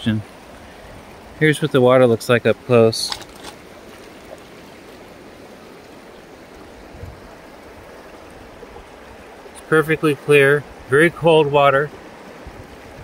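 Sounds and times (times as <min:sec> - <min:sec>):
river water rippling over cobbles: 0:00.0 - 0:13.0.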